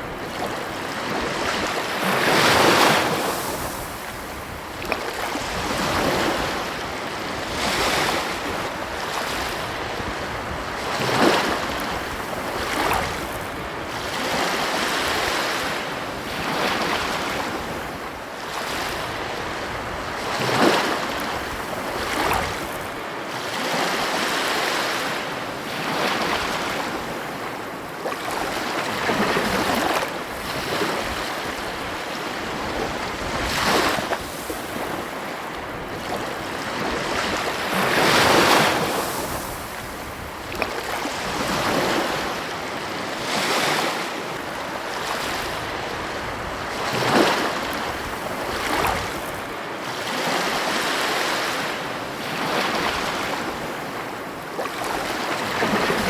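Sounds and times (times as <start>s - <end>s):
ocean surf breaking: 0.0s - 19.2s, 28.3s - 56.0s.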